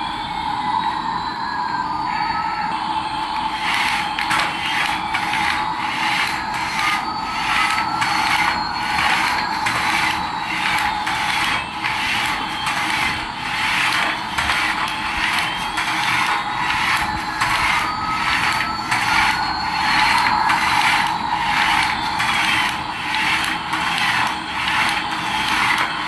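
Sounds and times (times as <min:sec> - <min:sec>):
faint gliding whine: 0:00.0 - 0:26.0
toy motor gears whirring: 0:03.4 - 0:26.0.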